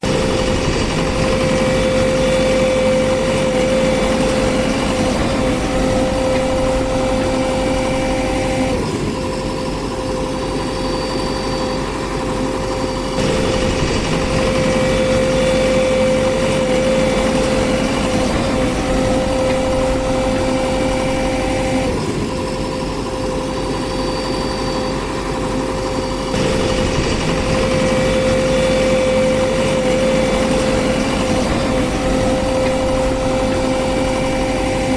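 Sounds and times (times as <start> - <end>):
engine running with whine: 0.0 - 34.9.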